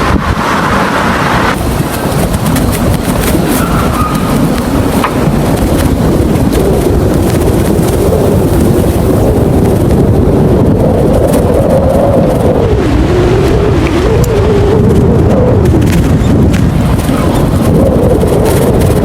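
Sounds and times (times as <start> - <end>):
storm wind rumbling: 0.0 - 19.0
wind buffeting microphone: 0.0 - 19.0.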